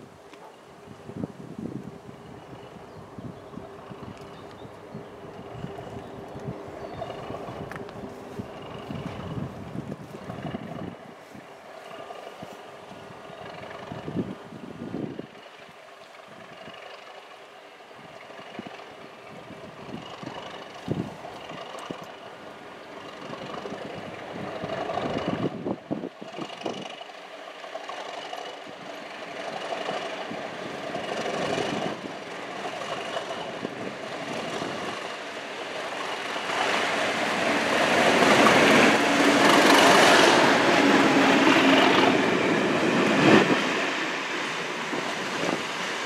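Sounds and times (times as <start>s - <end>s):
diesel locomotive passing: 0.0s - 46.0s
coach wheels rolling past: 0.8s - 46.0s.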